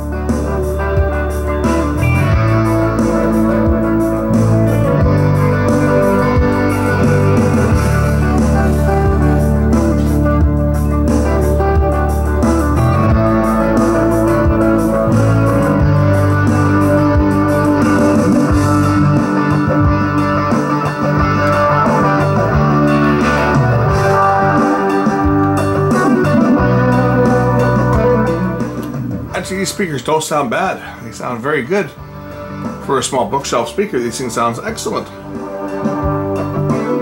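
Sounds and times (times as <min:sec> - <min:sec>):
guitar-led music through speakers: 0:00.0 - 0:37.0.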